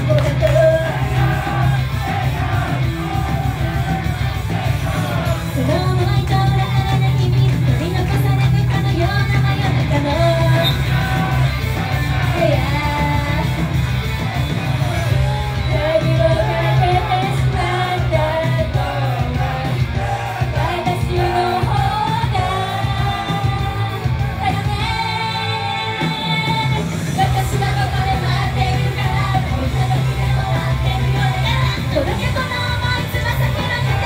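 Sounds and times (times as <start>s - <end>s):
girl group singing pop song: 0.0s - 13.7s, 14.8s - 34.0s
loud backing music: 0.0s - 34.0s.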